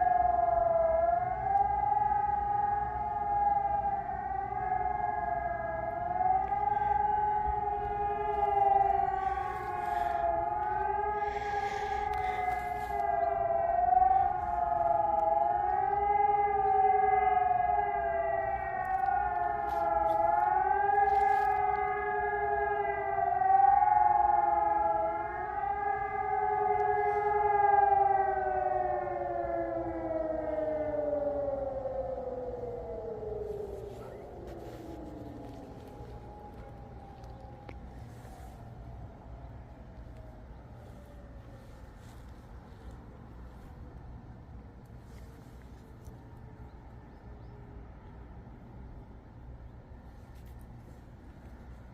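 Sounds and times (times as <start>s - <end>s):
civil defence sirens howling: 0.0s - 51.9s.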